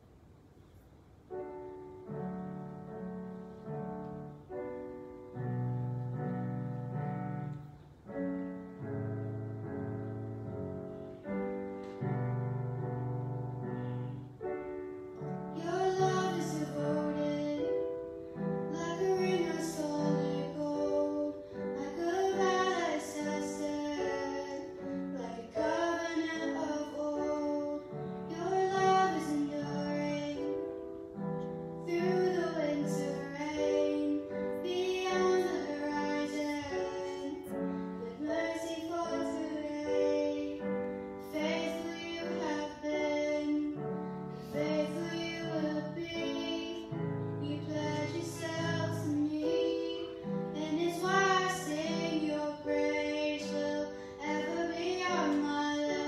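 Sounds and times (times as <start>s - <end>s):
piano chords: 0.0s - 56.0s.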